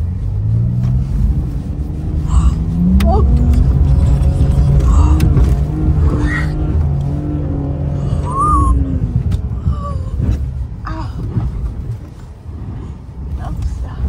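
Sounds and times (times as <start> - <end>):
car engine from inside cabin: 0.0 - 14.0.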